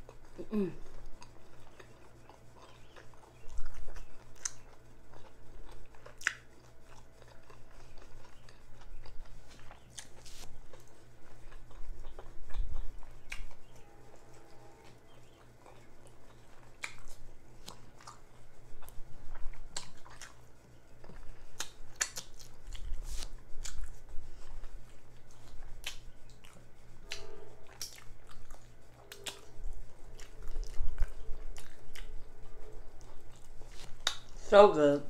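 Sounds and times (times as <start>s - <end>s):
chewing and lip-smacking: 0.0s - 13.9s, 14.8s - 34.4s.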